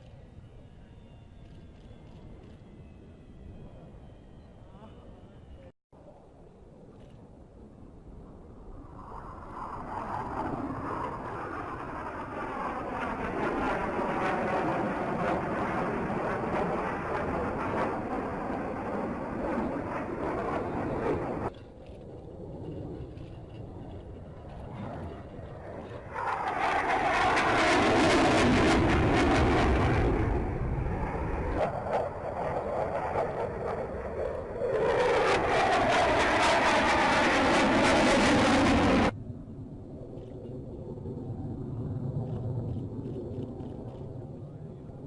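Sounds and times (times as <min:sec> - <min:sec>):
jet engines roaring past: 0:00.0 - 0:45.0.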